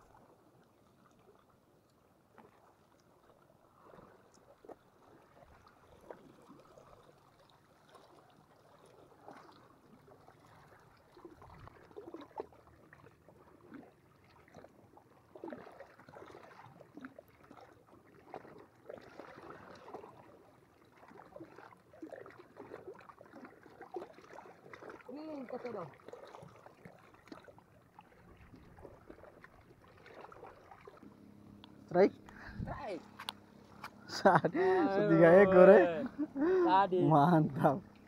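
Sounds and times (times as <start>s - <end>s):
small waves lapping and splashing: 0.0s - 38.0s.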